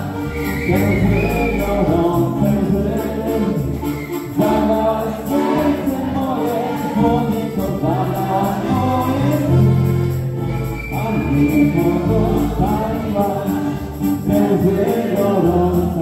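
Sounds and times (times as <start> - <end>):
voices singing together: 0.0 - 10.2, 10.8 - 16.0
acoustic guitar: 0.0 - 16.0
bass line: 0.0 - 16.0.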